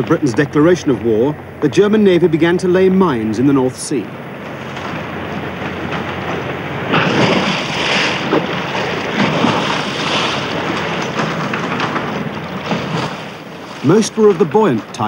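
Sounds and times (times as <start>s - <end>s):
sea water rushing and splashing: 0.0s - 15.0s
wind noise: 0.0s - 15.0s.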